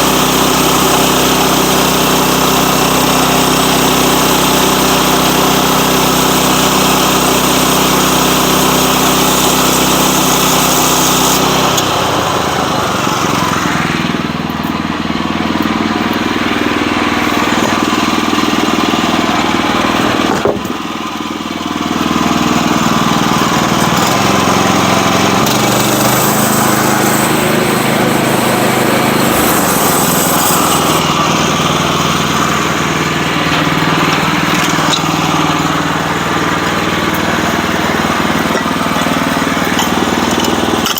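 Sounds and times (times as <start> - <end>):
saw cutting log: 0.0 - 40.9
sawmill engine running: 0.0 - 40.9.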